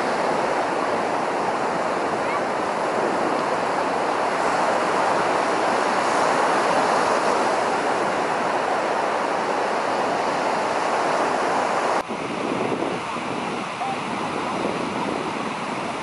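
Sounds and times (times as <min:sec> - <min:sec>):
surf washing on sandy beach: 0:00.0 - 0:16.0.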